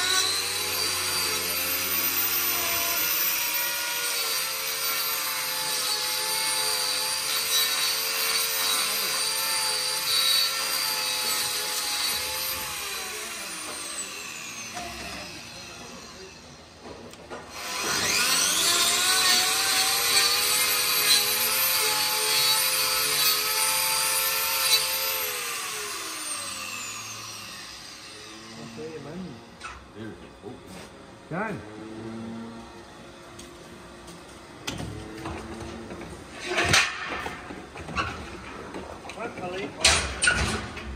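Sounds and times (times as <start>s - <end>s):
angle grinder grinding hoof: 0.0s - 40.9s.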